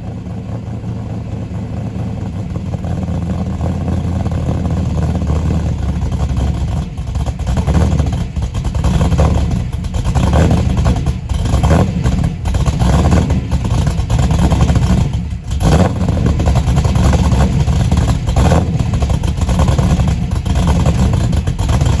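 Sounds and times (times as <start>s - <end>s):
car engine lumpy idle: 0.0s - 22.0s.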